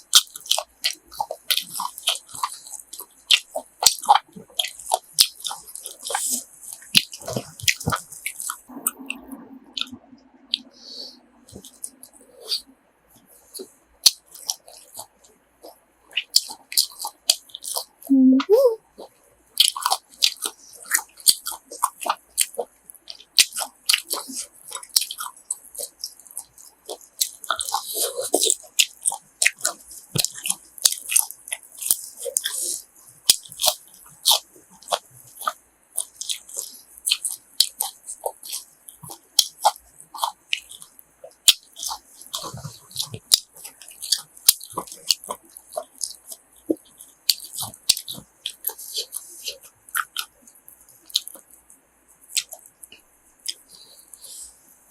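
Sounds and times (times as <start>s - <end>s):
chewing crisp food crunches: 0.0s - 8.7s, 13.4s - 18.1s, 18.9s - 54.5s.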